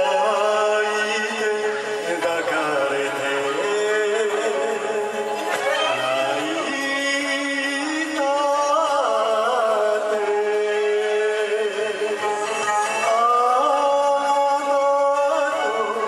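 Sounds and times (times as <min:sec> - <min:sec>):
karaoke backing track: 0:00.0 - 0:16.0
man singing into a microphone: 0:00.0 - 0:16.0.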